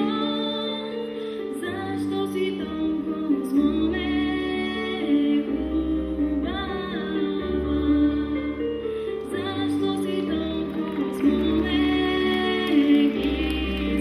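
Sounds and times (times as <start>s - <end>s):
woman singing a slow folk song: 0.0s - 14.0s.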